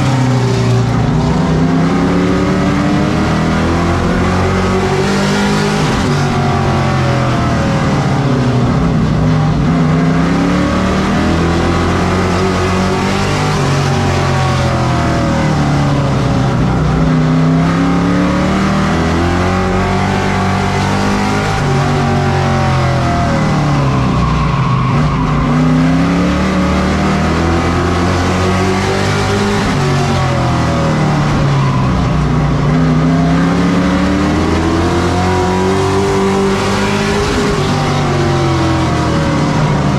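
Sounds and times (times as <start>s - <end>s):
racing truck engine: 0.0s - 39.9s.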